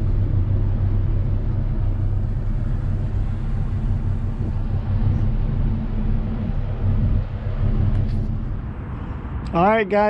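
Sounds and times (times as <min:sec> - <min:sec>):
boat motor droning: 0:00.0 - 0:09.8.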